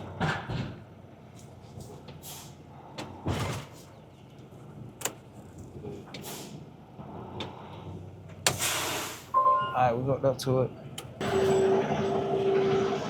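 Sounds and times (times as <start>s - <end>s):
truck idling: 0.0s - 10.0s, 10.6s - 13.0s.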